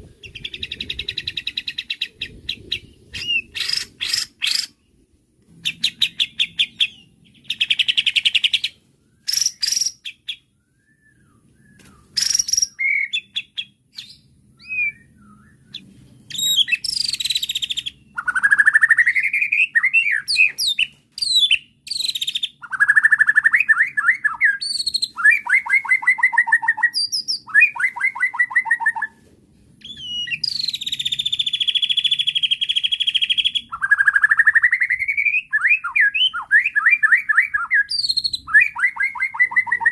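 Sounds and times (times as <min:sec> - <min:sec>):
songbird singing varied phrases: 0:00.0 - 0:05.0, 0:05.6 - 0:29.2, 0:29.8 - 0:39.9.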